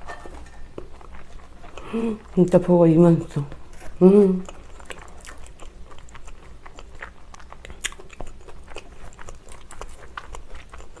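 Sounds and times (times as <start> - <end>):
chewing french fries: 0.1 - 11.0.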